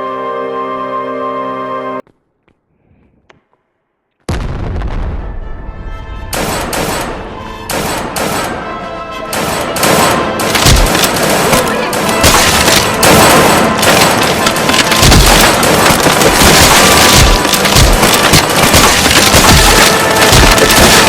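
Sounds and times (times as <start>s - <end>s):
music: 0.0s - 2.0s, 5.0s - 21.0s.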